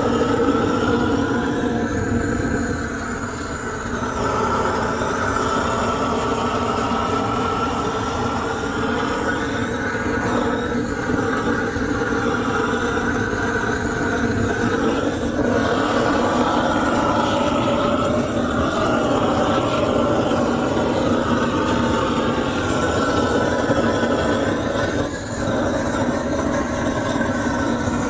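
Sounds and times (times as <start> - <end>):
gas torch flame roaring: 0.0 - 28.0.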